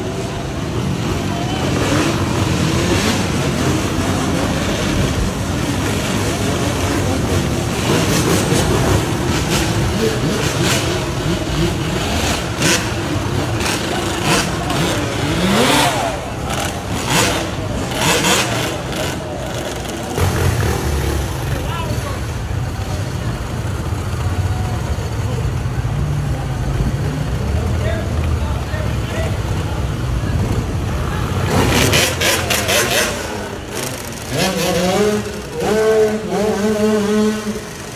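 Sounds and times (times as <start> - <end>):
motorbike engines revving: 0.0 - 37.9.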